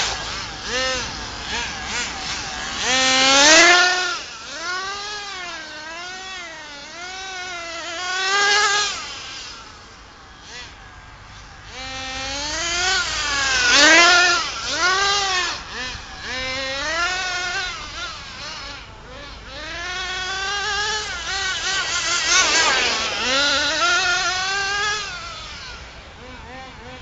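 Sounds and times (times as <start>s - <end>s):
small two-stroke engine revving: 0.0s - 27.0s.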